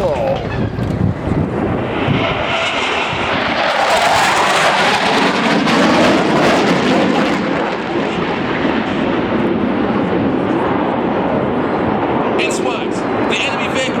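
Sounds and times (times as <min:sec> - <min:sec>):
jets roaring in low pass: 0:00.0 - 0:14.0.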